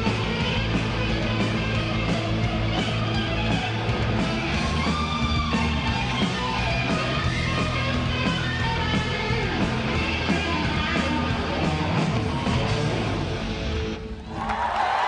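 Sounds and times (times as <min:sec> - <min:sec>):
bass notes: 0:00.0 - 0:14.3
electric guitar: 0:00.0 - 0:14.4.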